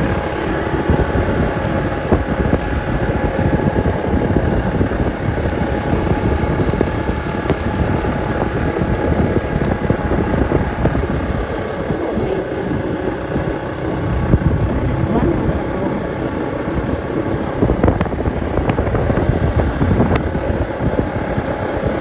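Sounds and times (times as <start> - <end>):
motorcycle engine running: 0.0 - 22.0
wind on microphone: 0.0 - 22.0.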